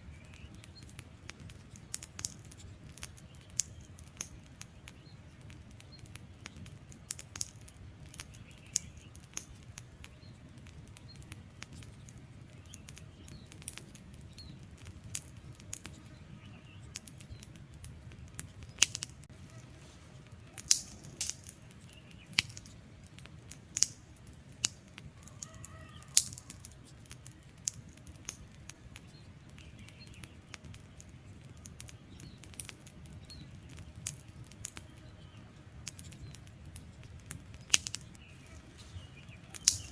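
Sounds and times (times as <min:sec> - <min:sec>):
fire crackling: 0:00.0 - 0:39.9
low rumble of flame: 0:00.0 - 0:39.9
logs popping and snapping: 0:00.2 - 0:39.9.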